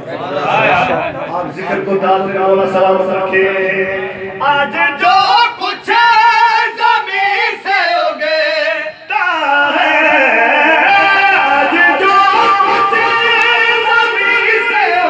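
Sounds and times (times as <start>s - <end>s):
man singing into a microphone: 1.4s - 15.0s.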